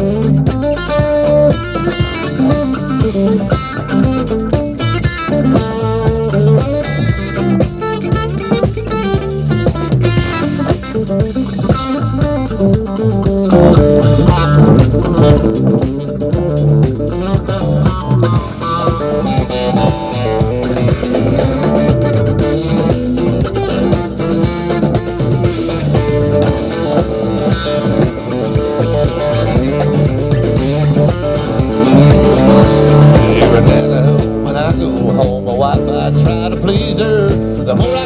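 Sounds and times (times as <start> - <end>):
bass guitar: 0.0 - 38.0
drums: 0.0 - 38.0
guitar picking melody: 0.0 - 38.0.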